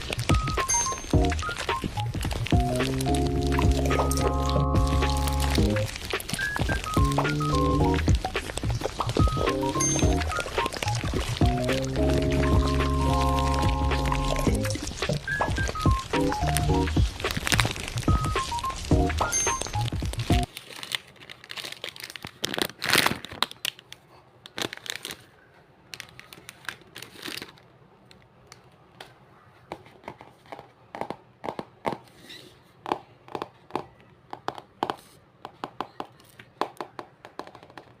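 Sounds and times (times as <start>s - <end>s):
crinkling and crackling: 0.0s - 31.2s, 32.0s - 38.0s.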